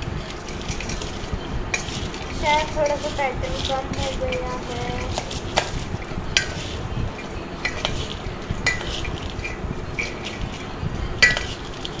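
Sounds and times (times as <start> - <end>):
spoon clinking against a bowl: 0.2 - 12.0.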